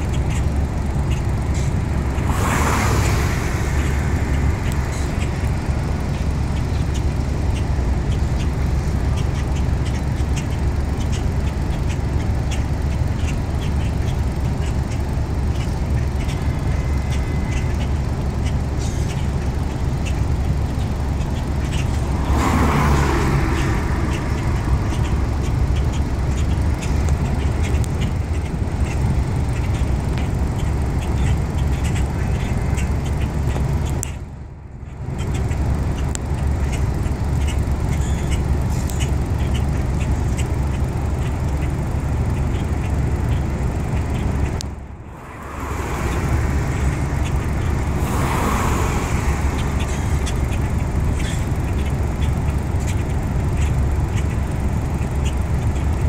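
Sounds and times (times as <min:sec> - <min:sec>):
city road noise rumble: 0:00.0 - 0:56.0
vehicle passing: 0:00.0 - 0:56.0.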